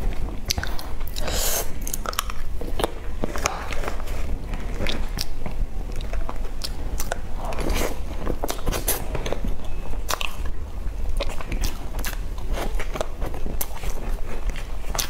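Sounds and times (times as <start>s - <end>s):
steady low hum: 0.0s - 15.0s
wet chewing: 0.1s - 15.0s.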